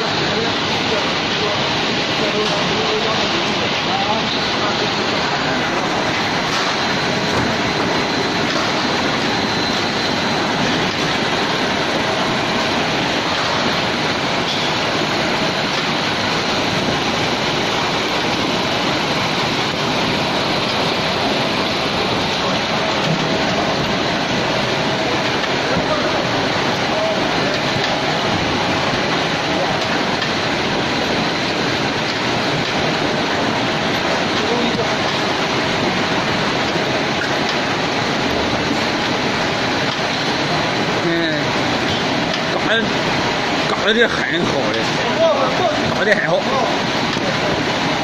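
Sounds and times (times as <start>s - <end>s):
processing line mechanical din: 0.0s - 48.0s.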